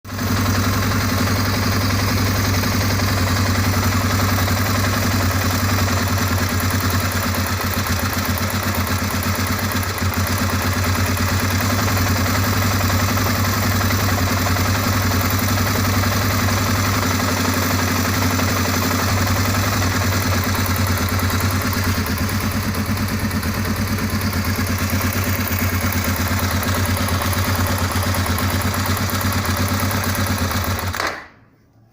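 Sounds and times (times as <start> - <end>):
motorcycle engine idling: 0.1 - 31.0.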